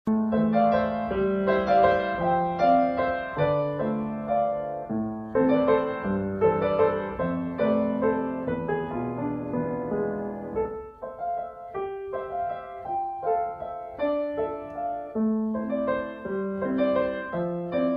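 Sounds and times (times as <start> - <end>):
gentle piano melody: 0.1 - 17.9.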